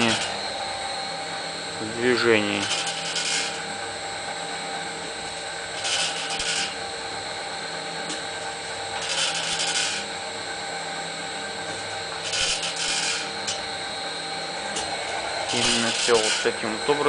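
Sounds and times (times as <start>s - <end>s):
motor and gearbox hum: 0.0s - 17.0s.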